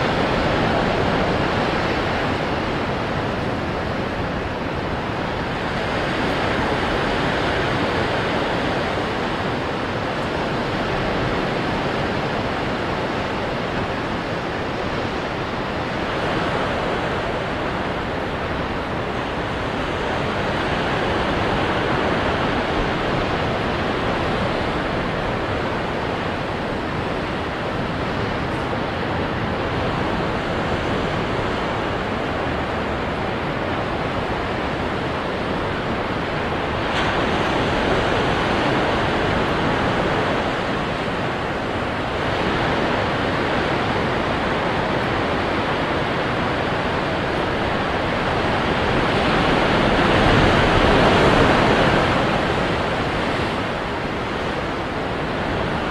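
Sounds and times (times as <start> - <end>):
ocean waves breaking on rocks: 0.0 - 55.9.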